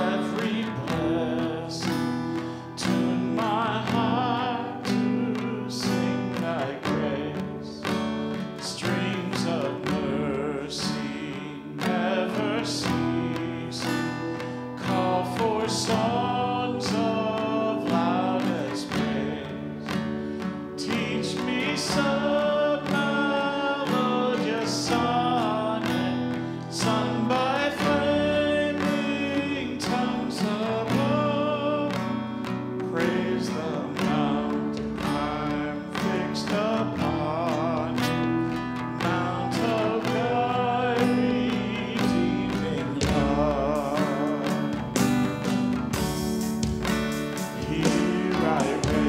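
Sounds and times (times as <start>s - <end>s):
acoustic guitars strummed: 0.0s - 49.0s
keyboard chords: 0.0s - 49.0s
singers singing melody: 0.0s - 49.0s.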